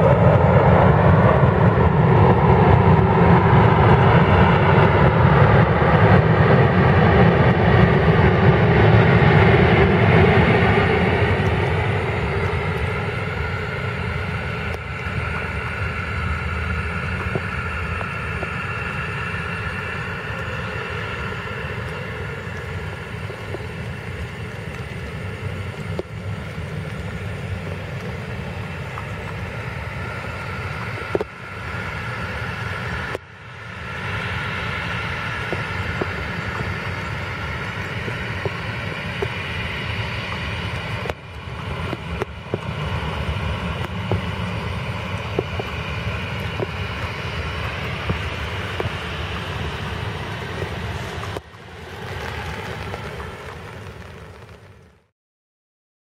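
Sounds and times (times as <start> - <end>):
jet engine rumble and whine: 0.0 - 55.1.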